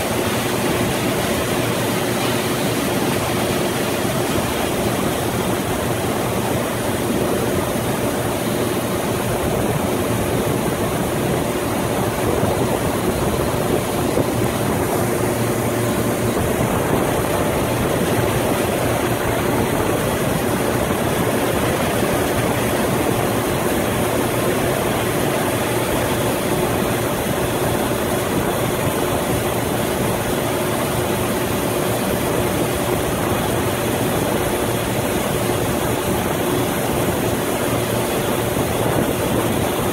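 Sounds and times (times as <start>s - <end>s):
diesel machinery humming: 0.0s - 32.5s.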